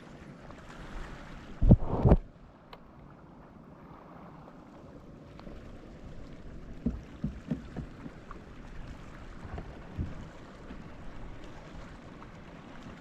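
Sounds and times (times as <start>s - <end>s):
faint hiss of wind and water: 0.0s - 13.0s.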